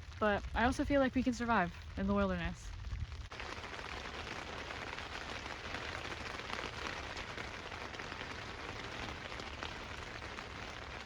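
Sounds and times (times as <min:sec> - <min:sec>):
steady rain patter: 0:00.0 - 0:11.0.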